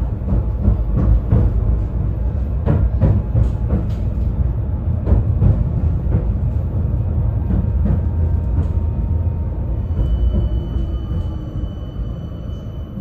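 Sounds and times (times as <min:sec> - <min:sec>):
tram running gear rumble: 0:00.0 - 0:13.0.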